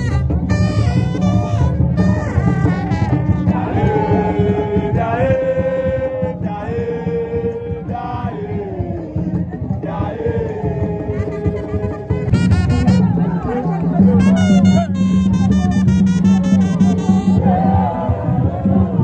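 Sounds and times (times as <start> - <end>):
dense drum beat: 0.0 - 19.0.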